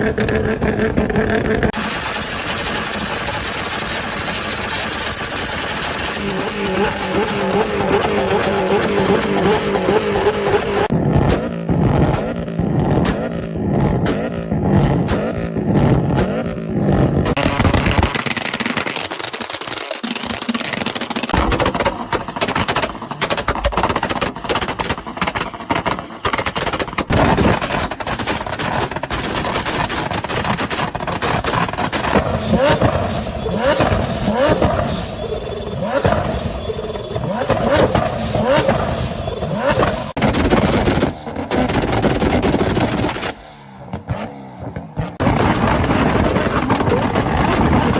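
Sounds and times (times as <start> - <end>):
car engines revving: 0.0 - 47.9
exhaust backfire pops: 0.0 - 47.9.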